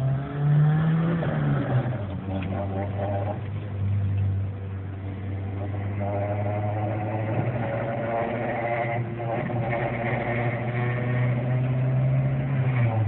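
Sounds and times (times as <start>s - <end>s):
car engine running: 0.0s - 13.0s
high engine whine: 0.0s - 13.0s.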